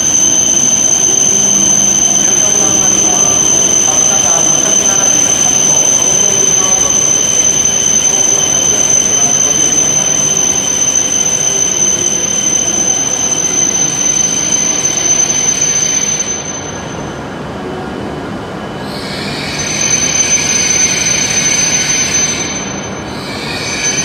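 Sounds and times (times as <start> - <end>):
high-pitched brake squeal: 0.0 - 17.2, 18.8 - 24.0
train braking to a stop: 0.0 - 24.0.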